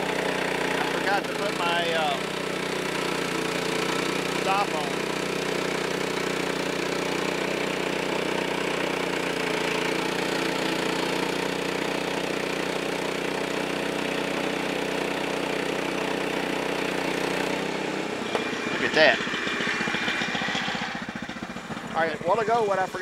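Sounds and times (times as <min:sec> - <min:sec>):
saw blade cutting log: 0:00.0 - 0:23.0
small gas engine running: 0:00.0 - 0:23.0.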